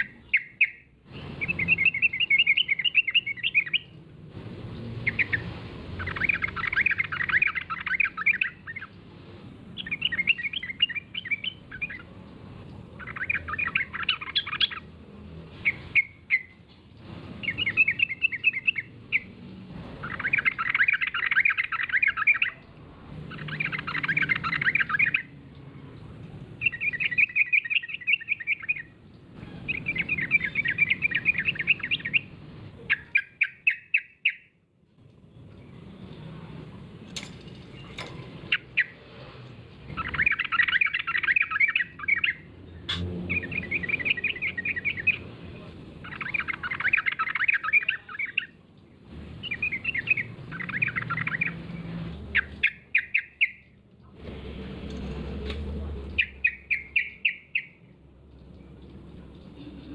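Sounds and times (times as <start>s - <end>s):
bird chattering song: 0.0s - 4.0s, 4.7s - 9.0s, 9.7s - 14.9s, 15.6s - 16.7s, 17.4s - 19.4s, 20.0s - 34.6s, 37.7s - 39.0s, 39.9s - 48.6s, 49.4s - 53.8s, 56.0s - 59.9s.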